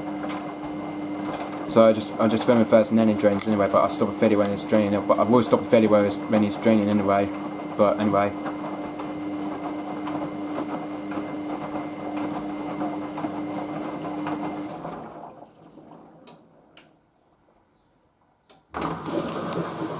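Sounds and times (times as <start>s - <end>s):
washing machine hum and rattle: 0.0s - 16.2s.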